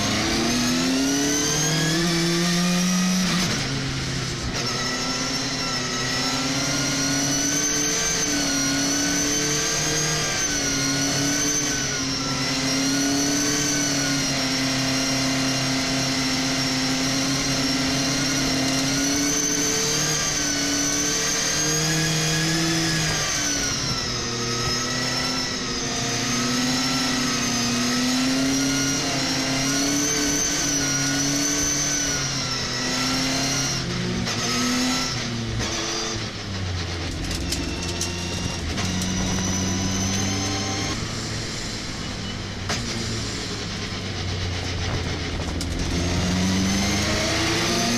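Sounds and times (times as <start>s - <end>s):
truck engine accelerating: 0.0s - 47.9s.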